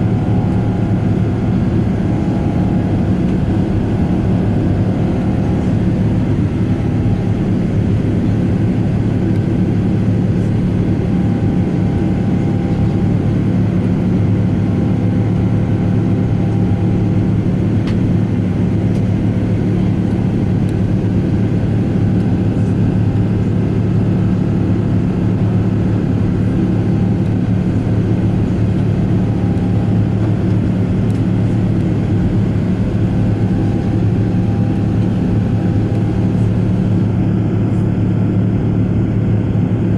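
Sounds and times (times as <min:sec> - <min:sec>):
low hum: 0:00.0 - 0:18.1, 0:18.9 - 0:39.5
aircraft cabin engine roar: 0:00.0 - 0:39.9.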